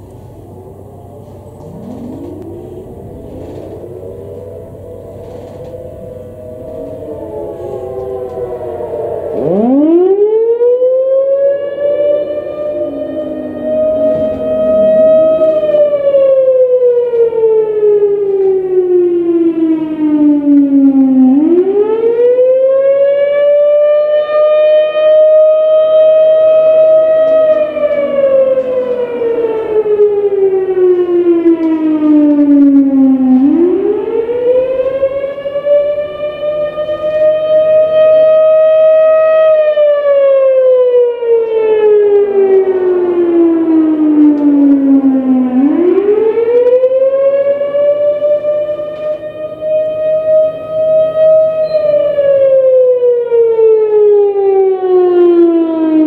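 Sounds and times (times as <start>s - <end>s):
warning siren wailing: 0.0s - 56.0s.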